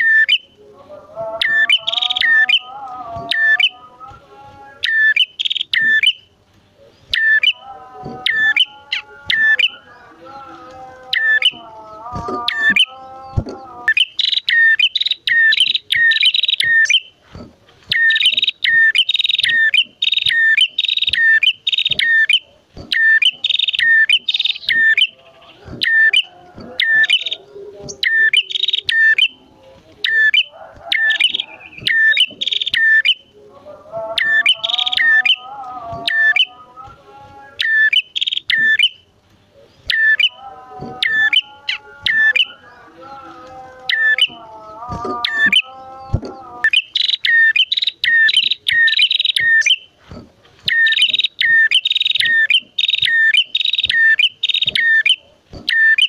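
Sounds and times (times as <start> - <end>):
songbirds chirping rapidly: 0.0 - 56.0.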